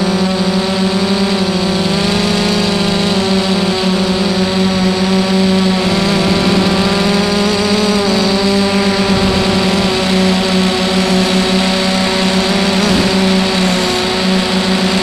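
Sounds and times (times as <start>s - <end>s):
drone motors buzzing whine: 0.0s - 15.0s.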